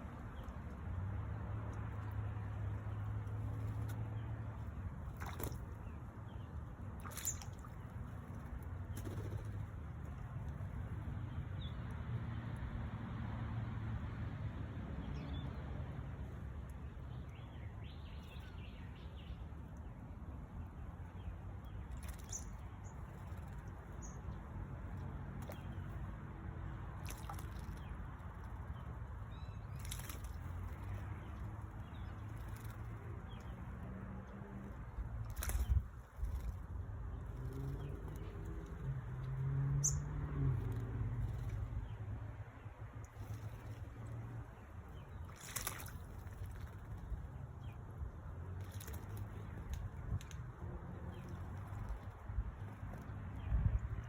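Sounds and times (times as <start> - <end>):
low outdoor rumble: 0.0 - 54.0.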